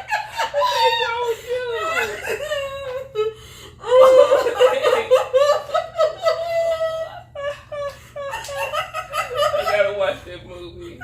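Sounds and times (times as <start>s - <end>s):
women laughing: 0.0s - 11.0s.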